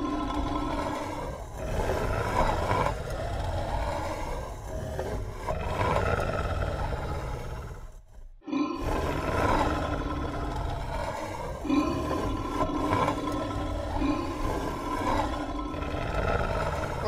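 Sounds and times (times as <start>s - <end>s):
low rumbling beast growl: 0.0s - 17.0s.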